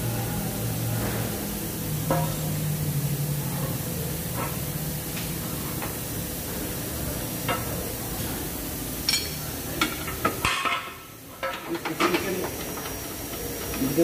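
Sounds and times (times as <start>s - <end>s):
workshop hum and hiss: 0.0s - 14.0s.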